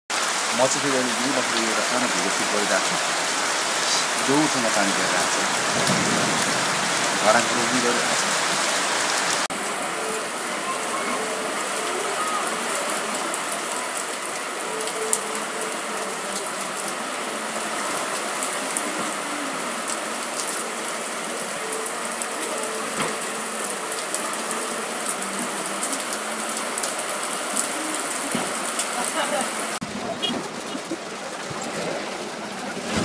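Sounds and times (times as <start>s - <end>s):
heavy rain: 0.1s - 33.0s.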